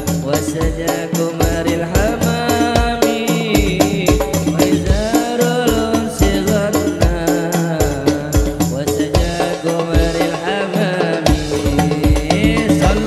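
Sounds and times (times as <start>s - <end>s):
deep bass drum beats: 0.0s - 10.4s, 11.3s - 13.0s
frame drums: 0.0s - 13.0s
man singing into a microphone: 0.0s - 13.0s.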